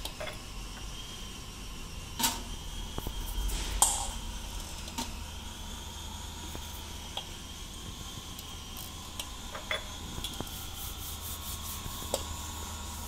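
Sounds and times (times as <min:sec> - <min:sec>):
electric motor hum with whine: 0:00.0 - 0:13.0.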